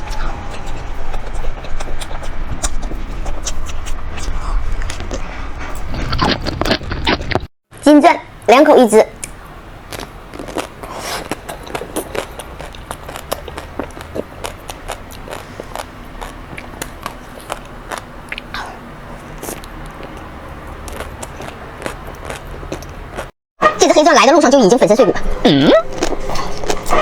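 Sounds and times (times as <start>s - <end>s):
chewing ice cream bar: 0.0s - 7.5s, 9.2s - 23.4s, 25.8s - 27.0s.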